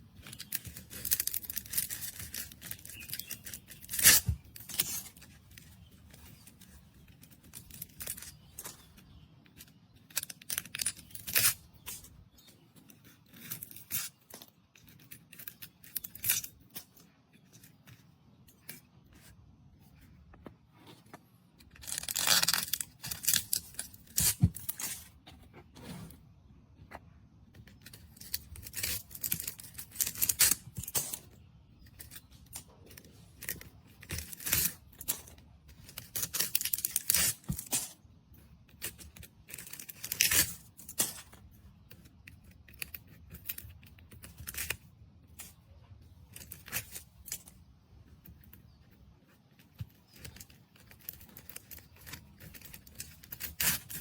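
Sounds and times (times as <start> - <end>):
crackling rustling handling noise: 0.0 - 54.0.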